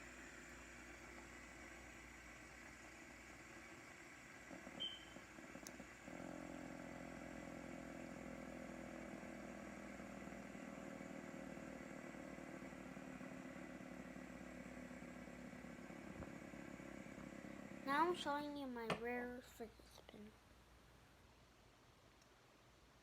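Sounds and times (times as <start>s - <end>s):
fidget spinner whirring hum: 0.0s - 20.2s.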